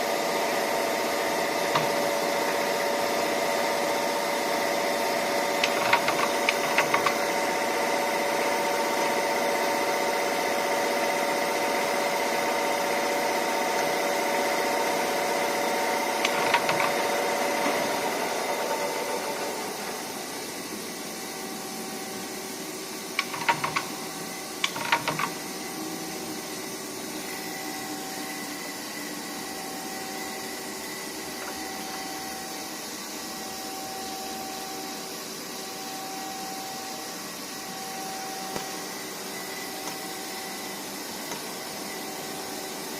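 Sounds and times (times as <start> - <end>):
lathe machine whine: 0.0 - 42.9.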